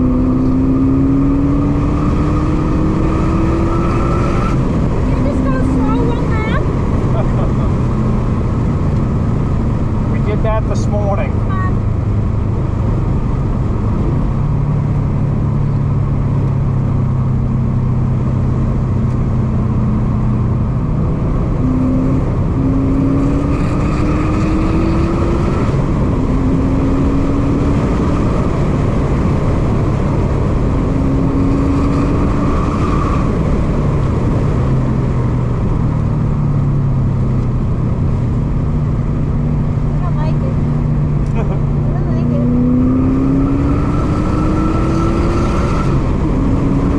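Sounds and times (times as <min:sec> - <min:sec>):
car engine revving: 0:00.0 - 0:46.9
road and wind noise: 0:00.0 - 0:46.9.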